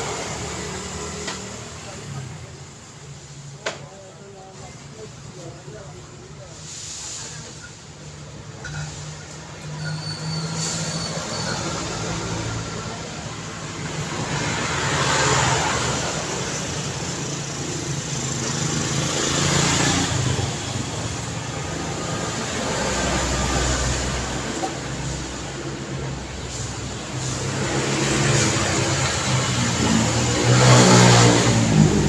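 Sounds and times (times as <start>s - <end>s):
traffic engines running: 0.0s - 32.0s
vehicles passing close: 0.0s - 32.0s.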